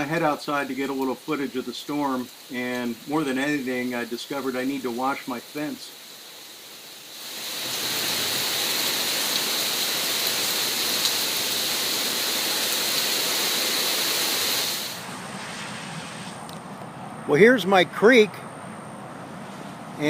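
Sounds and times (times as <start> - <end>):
heavy rain and wind: 0.0 - 20.0.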